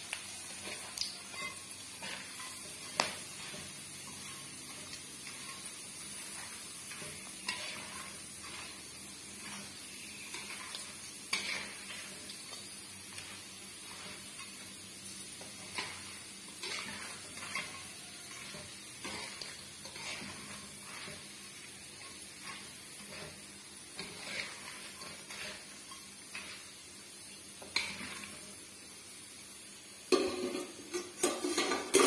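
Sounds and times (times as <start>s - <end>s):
food sizzling in oil: 0.0s - 32.0s
metal spatula scraping pan: 0.5s - 26.7s, 27.6s - 28.5s, 30.1s - 32.0s.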